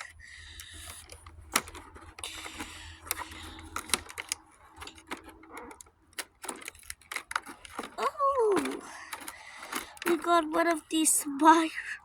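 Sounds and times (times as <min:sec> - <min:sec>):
packaging crinkling and clicking: 0:00.0 - 0:12.0.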